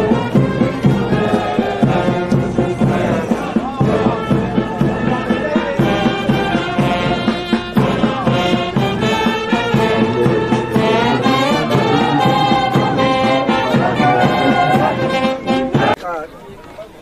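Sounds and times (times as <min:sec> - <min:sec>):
brass band playing a march: 0:00.0 - 0:16.0
steady drum beat: 0:00.0 - 0:16.0.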